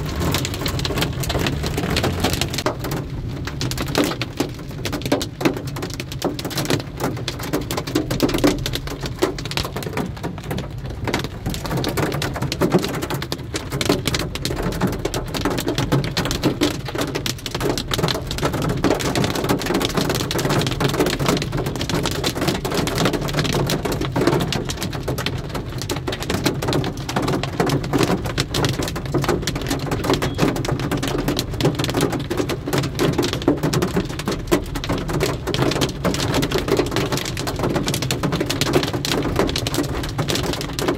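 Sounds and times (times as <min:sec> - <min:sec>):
rain and hail on car roof: 0:00.0 - 0:40.9.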